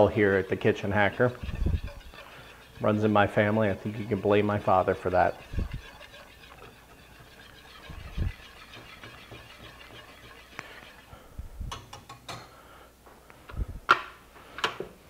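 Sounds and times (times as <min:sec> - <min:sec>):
whisk swishing in a metal pan: 0:00.0 - 0:12.4.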